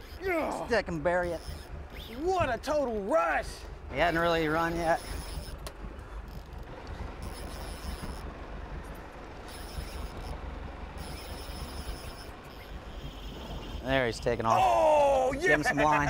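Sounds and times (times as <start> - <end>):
boat engine running: 0.0 - 16.0
wind: 0.0 - 16.0.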